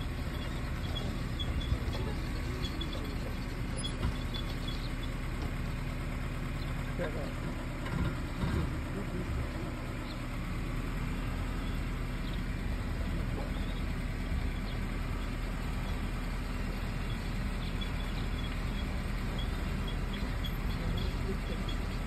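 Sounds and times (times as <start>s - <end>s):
car engine humming: 0.0s - 22.0s.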